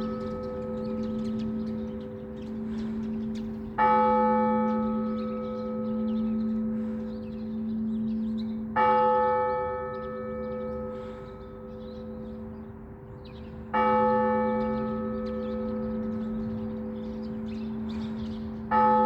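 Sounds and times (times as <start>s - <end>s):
large church bell tolling: 0.0s - 19.0s.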